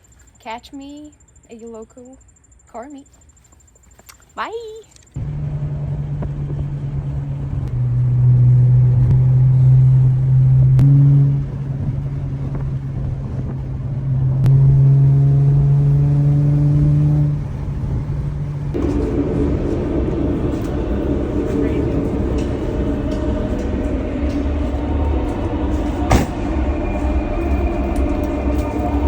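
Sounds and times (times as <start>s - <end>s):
car engine running: 5.2s - 29.0s.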